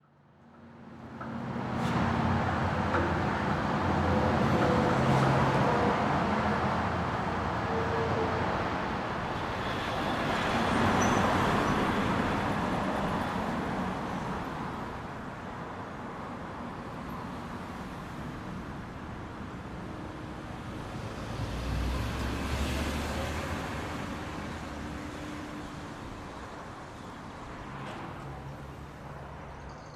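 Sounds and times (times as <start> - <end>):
wind: 0.0 - 29.9.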